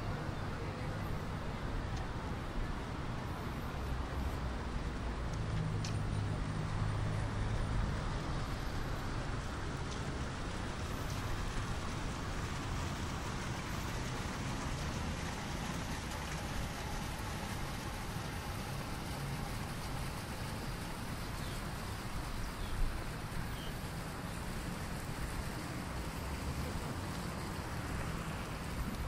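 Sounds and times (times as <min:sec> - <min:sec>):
city ambience hiss: 0:00.0 - 0:29.0.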